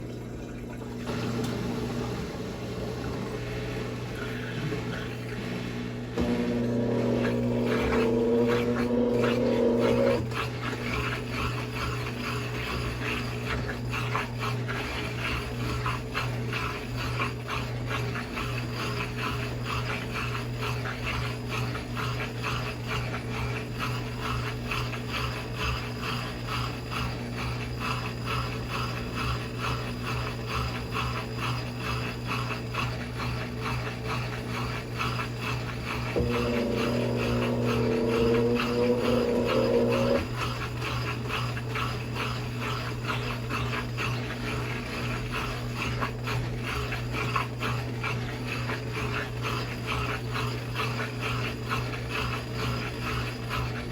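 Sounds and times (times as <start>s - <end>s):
washing machine hum: 0.0s - 53.9s
washing machine motor whine: 0.0s - 53.9s.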